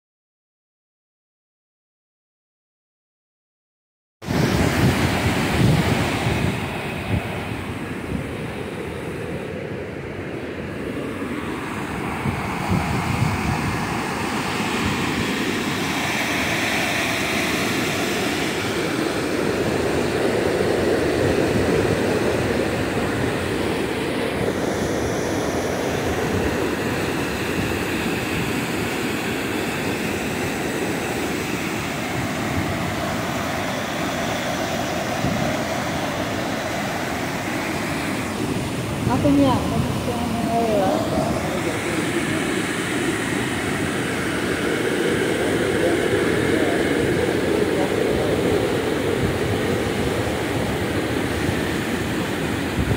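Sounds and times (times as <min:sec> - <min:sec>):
wind buffeting microphone: 0:04.2 - 0:52.9.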